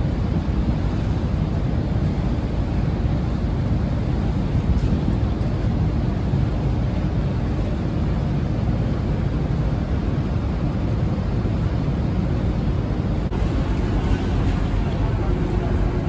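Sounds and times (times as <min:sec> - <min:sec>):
ship engine rumble: 0:00.0 - 0:16.0
wind on microphone: 0:00.0 - 0:16.0.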